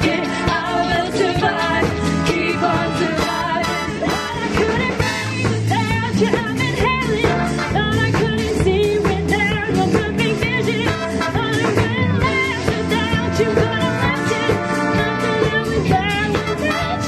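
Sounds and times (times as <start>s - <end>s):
instrumental accompaniment with beat: 0.0s - 17.0s
women singing pop-rock song: 0.0s - 17.0s.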